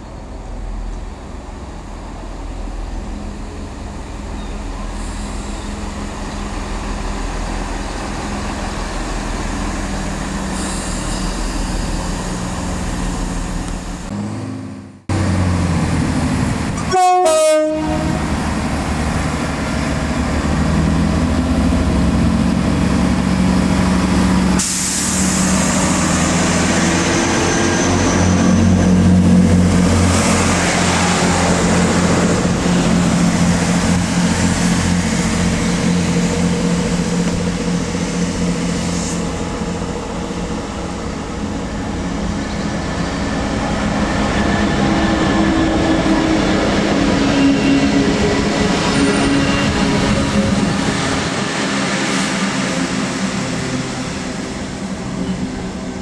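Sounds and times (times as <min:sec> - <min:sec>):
rumbling wheel and rail noise: 0:00.0 - 0:56.0
train engine hum: 0:00.0 - 0:56.0.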